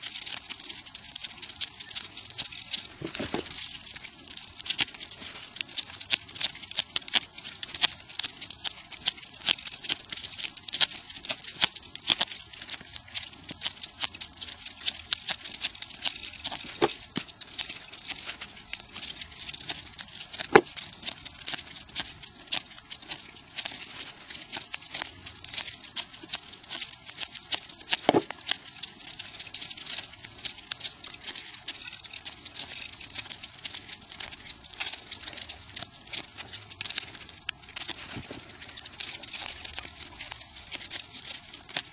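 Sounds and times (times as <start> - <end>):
paper rustling and clicking: 0.0 - 41.9.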